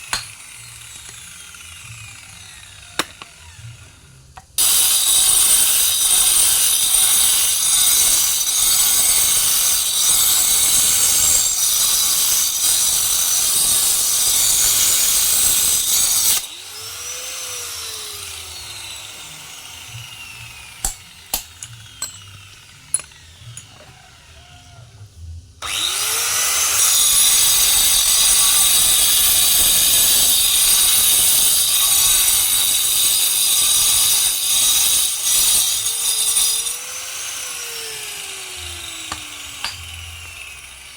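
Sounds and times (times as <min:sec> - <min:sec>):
power grinder cutting stone: 0:00.0 - 0:24.8, 0:25.6 - 0:40.9.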